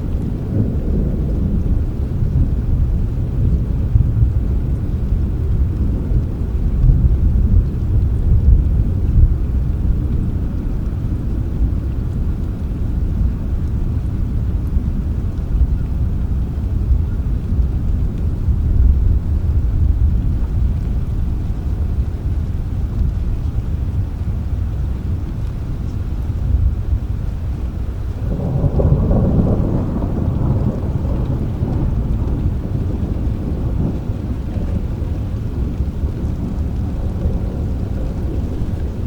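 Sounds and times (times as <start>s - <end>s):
low rolling thunder: 0.0s - 39.0s
steady rain hiss: 0.0s - 39.0s.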